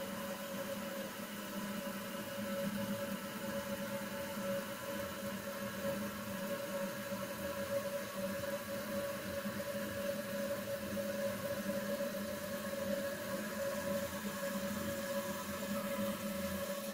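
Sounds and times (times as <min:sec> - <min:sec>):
steady hum with held tones: 0:00.0 - 0:16.9.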